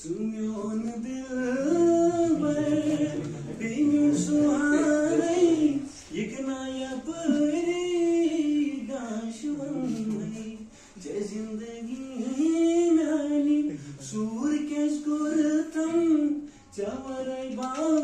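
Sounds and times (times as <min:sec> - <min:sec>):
man singing without accompaniment: 0:00.0 - 0:18.0.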